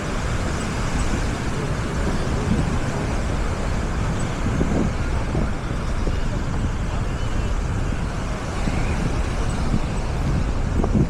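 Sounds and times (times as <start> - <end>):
distant crowd voices: 0.0 - 10.4
surf: 0.0 - 11.0
wind on microphone: 0.0 - 11.0.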